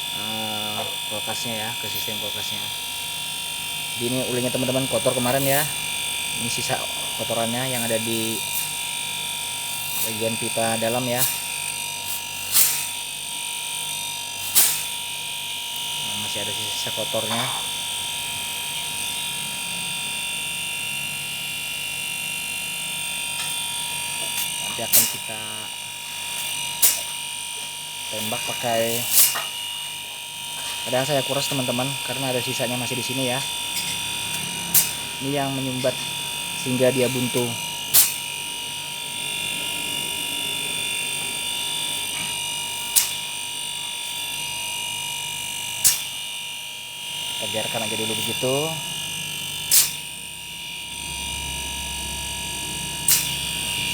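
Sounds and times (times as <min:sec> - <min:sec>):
freezer compressor humming: 0:00.0 - 0:53.9.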